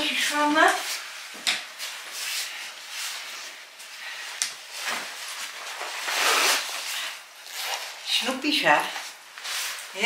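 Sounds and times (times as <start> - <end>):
rustling handling noises: 0.6 - 10.0.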